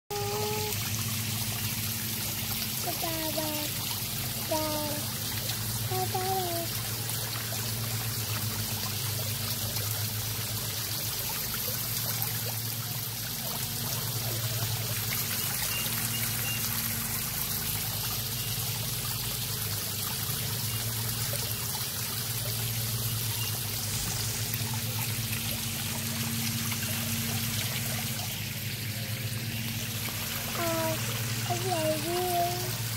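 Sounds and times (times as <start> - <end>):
small waterfall splashing into pond: 0.1 - 32.9.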